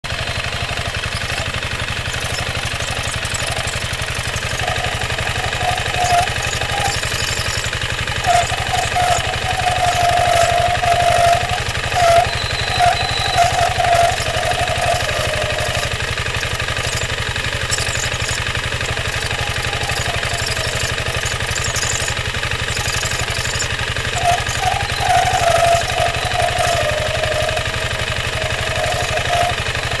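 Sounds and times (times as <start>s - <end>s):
scooter engine running: 0.0s - 30.0s
wavering transmission noise: 0.2s - 30.0s.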